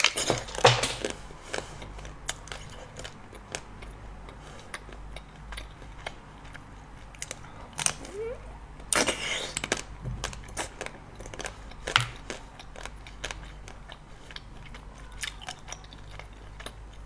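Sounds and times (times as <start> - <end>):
chewing with mouth clicks: 0.9 - 17.0.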